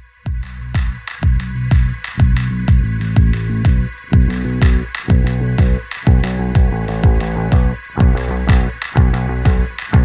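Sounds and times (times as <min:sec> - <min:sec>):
kick drum beat: 0:00.1 - 0:10.0
deep synth bass: 0:00.3 - 0:10.0.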